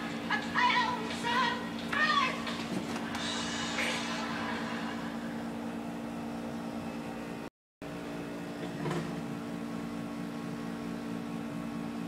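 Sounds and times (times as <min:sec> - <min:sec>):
low mechanical hum with tones: 0:00.0 - 0:12.0.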